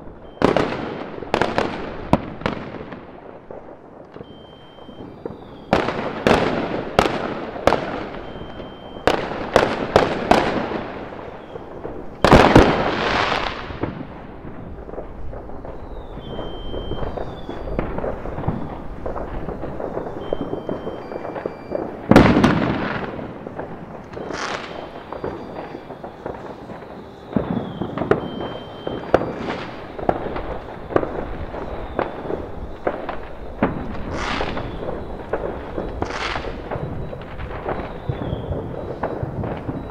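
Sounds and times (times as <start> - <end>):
firework crackling: 0.0 - 39.9
fireworks bangs: 0.0 - 39.9
loud firework booms: 0.0 - 39.9.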